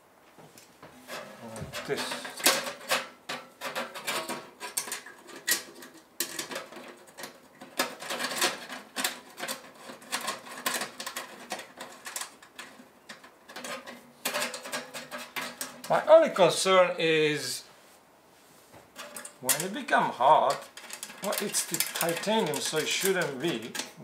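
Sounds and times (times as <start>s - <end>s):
metal scraping: 1.0s - 16.3s, 18.9s - 24.0s
metal parts clicking and rattling: 1.1s - 16.0s, 19.0s - 24.0s.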